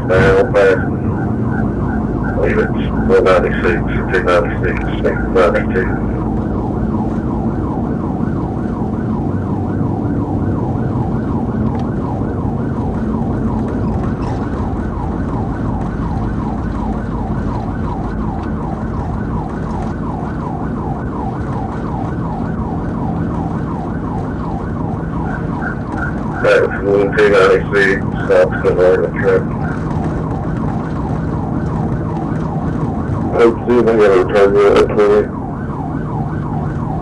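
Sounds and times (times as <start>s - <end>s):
car engine and tyres rumbling: 0.0s - 37.0s
police siren yelping: 0.0s - 37.0s.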